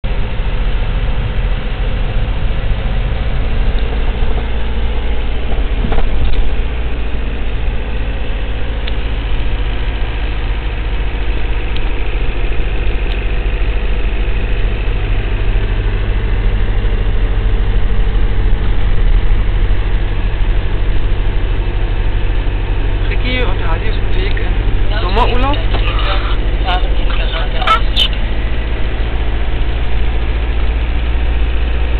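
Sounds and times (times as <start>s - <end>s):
car engine running: 0.0s - 31.9s
tyre road noise: 0.0s - 31.9s.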